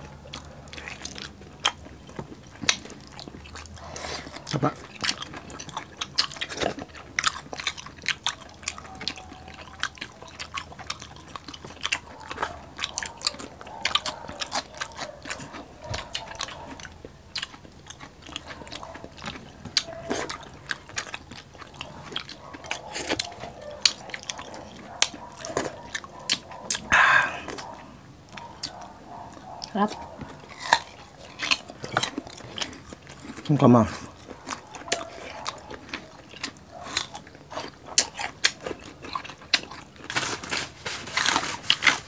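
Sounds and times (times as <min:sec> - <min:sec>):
chewing crispy pork: 0:00.0 - 0:42.0.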